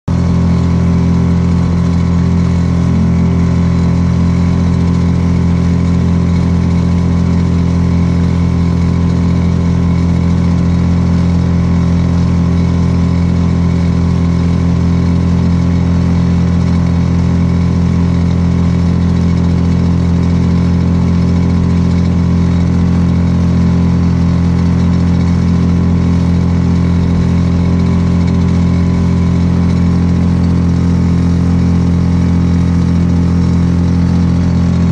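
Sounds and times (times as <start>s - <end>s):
small outboard motor running: 0.1s - 34.9s.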